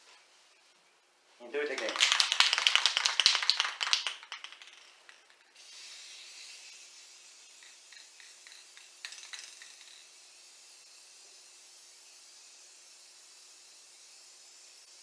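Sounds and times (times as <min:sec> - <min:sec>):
spray can rattling: 0:01.6 - 0:15.0
spray paint hissing: 0:01.8 - 0:15.0.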